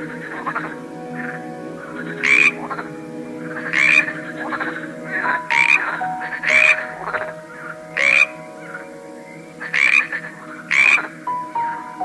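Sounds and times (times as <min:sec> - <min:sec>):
frog croaking: 0:00.0 - 0:12.0
soft melody of held notes: 0:00.0 - 0:12.0.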